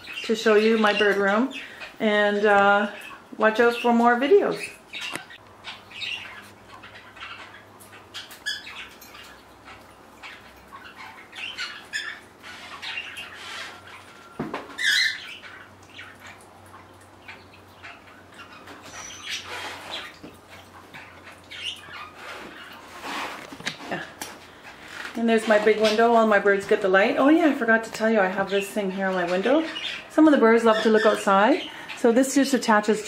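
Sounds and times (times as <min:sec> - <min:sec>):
pet birds chirping and squawking: 0:00.0 - 0:33.0.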